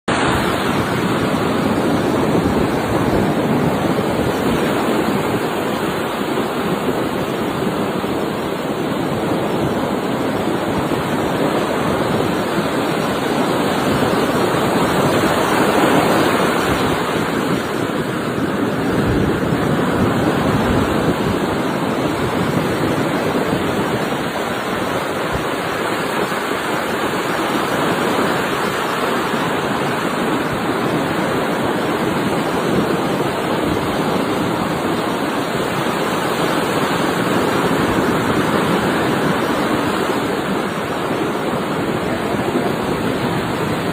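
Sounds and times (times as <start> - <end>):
surf breaking on beach: 0.1 - 43.9.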